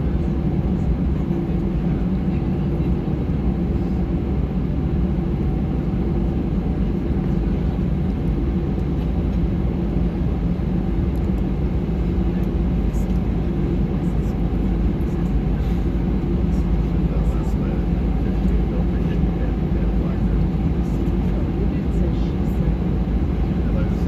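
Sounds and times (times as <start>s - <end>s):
jet engine cabin drone: 0.0s - 24.0s.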